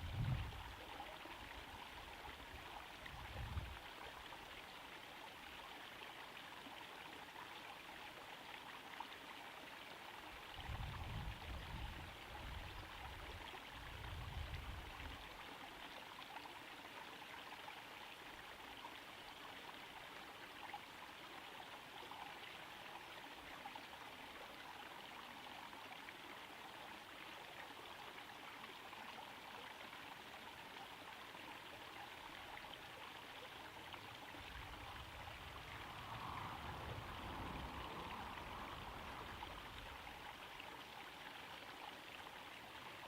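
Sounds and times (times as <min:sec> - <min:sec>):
pond waterfall trickling and splashing: 0:00.0 - 0:43.0.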